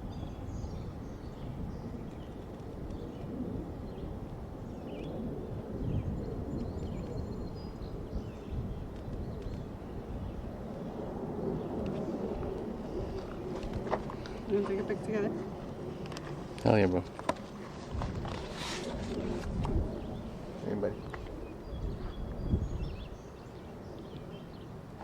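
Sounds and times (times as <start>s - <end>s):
small birds chirping: 0.0s - 24.8s.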